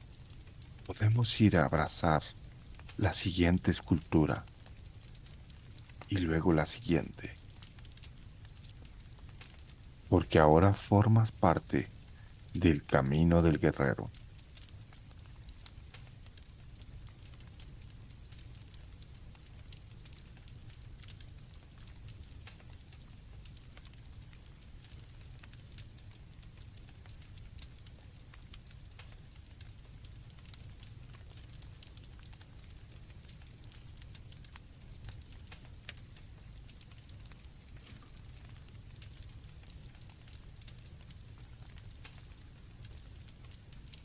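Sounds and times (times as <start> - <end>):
campfire crackling: 0.0 - 44.0
crickets chirping: 0.0 - 44.0.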